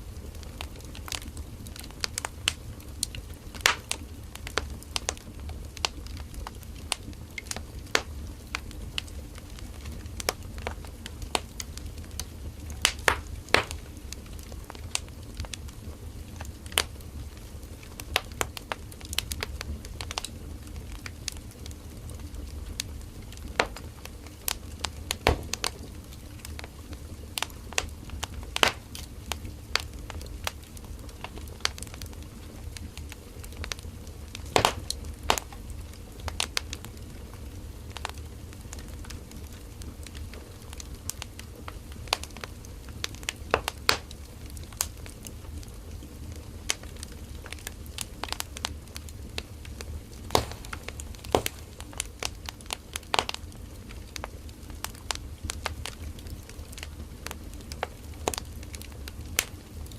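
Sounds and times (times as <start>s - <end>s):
firewood crackling and popping: 0.0s - 59.9s
low rumble of flame: 0.0s - 59.9s.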